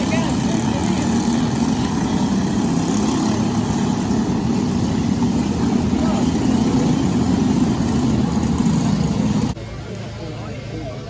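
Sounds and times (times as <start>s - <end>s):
kart engine running: 0.0s - 9.6s.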